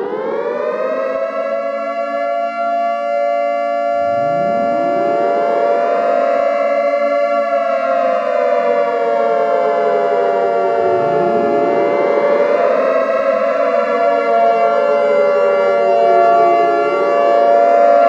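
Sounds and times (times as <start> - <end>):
warning siren wailing: 0.0 - 18.0.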